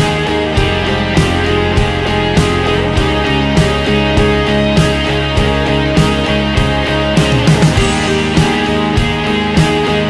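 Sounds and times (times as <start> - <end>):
rock music with electric guitar: 0.0 - 10.0
steady drum beat: 0.0 - 10.0.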